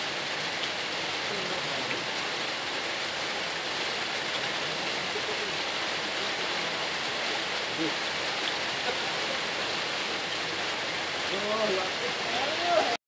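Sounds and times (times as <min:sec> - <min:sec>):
light rain on a pond: 0:00.0 - 0:13.0.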